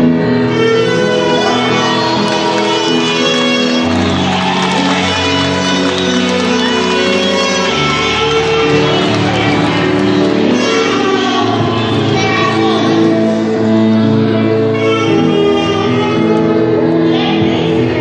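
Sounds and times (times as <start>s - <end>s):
slow instrumental music: 0.0s - 18.0s.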